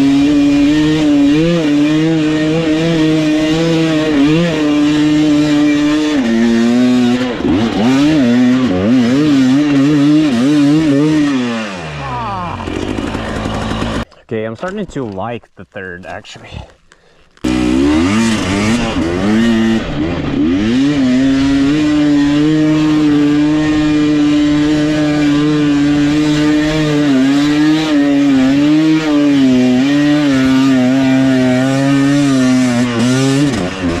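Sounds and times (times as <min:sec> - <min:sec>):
dirt bike engine revving: 0:00.0 - 0:14.1, 0:17.4 - 0:34.0.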